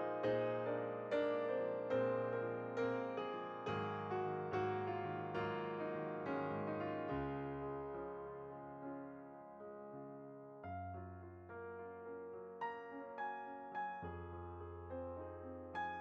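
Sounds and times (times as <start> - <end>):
gentle piano piece: 0.0 - 16.0.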